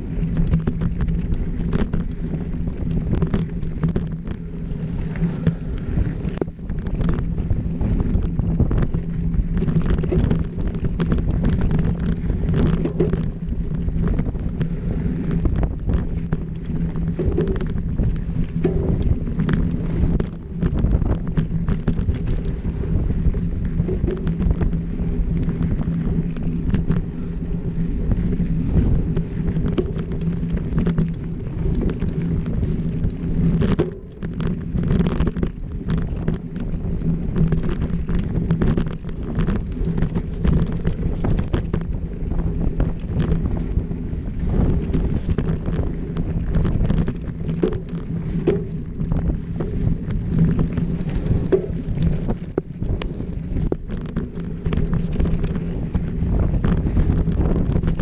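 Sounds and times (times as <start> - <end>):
bike rattling over bumps: 0.0 - 58.0
bike tyres rolling over dirt: 0.0 - 58.0
wind buffeting microphone: 0.0 - 58.0.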